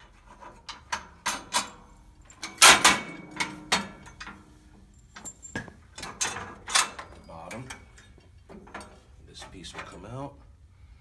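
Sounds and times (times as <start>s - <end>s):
metal clicks clanks and rattles: 0.0s - 10.2s.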